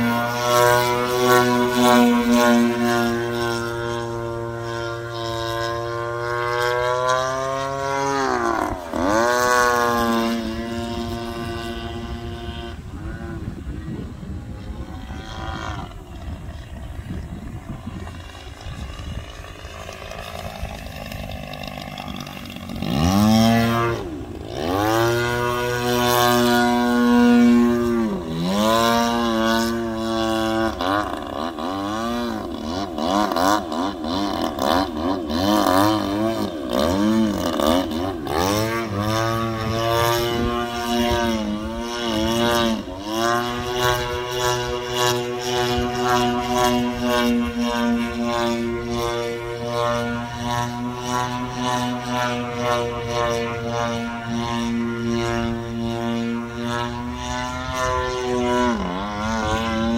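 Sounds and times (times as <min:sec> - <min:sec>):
model airplane engine: 0:00.0 - 0:59.9.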